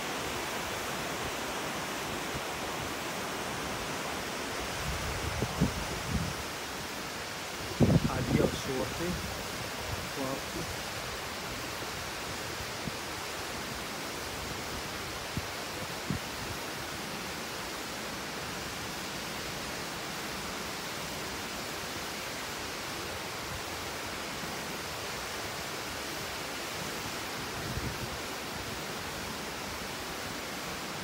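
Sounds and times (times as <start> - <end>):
waterfall hissing: 0.0 - 31.0.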